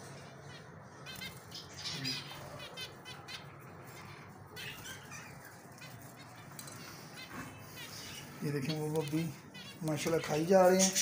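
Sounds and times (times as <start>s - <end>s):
birds cheeping: 0.0s - 11.0s.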